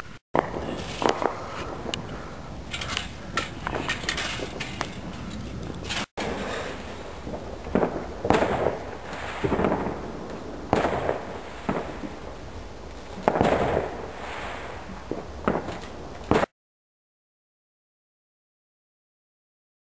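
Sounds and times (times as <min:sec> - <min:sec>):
fireworks bangs: 0:00.0 - 0:16.5.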